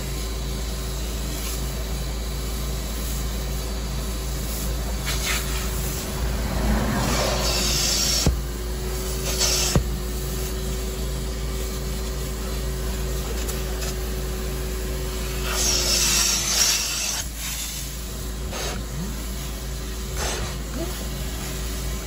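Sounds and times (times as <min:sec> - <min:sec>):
loud hissing bursts: 0:00.0 - 0:22.0
extractor humming: 0:02.1 - 0:22.0.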